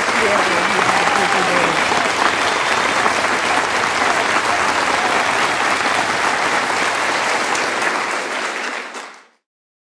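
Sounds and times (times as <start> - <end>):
applause: 0.0 - 9.5.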